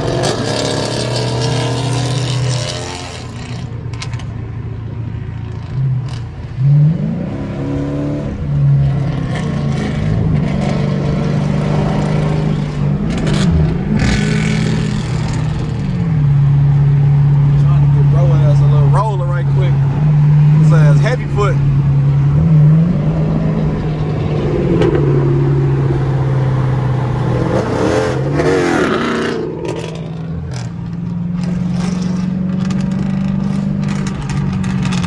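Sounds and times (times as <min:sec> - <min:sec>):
car exhaust accelerating: 0:00.0 - 0:35.0.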